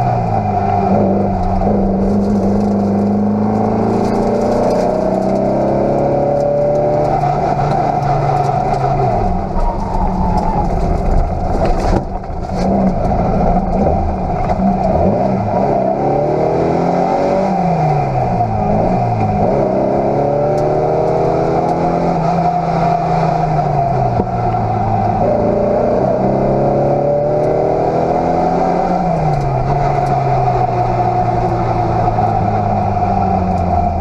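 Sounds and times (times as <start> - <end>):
car engine driven hard: 0.0 - 34.0.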